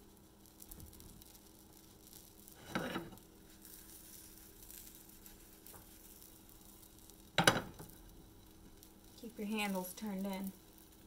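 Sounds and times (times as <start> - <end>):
pancake sizzling in frying pan: 0.0 - 11.0.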